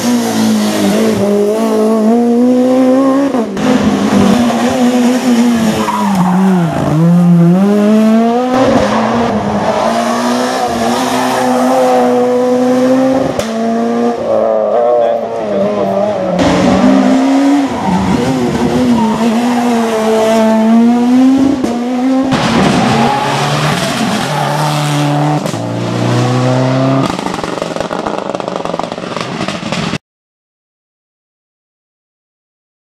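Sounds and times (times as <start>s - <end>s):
car engine revving through gears: 0.0s - 28.8s
rally car engine at high revs: 0.0s - 29.9s.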